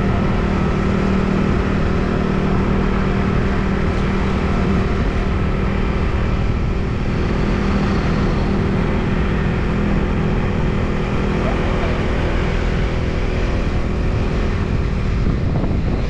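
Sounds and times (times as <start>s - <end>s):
motorbike engine running: 0.0s - 16.0s
road noise: 0.0s - 16.0s
wind noise: 0.0s - 16.0s.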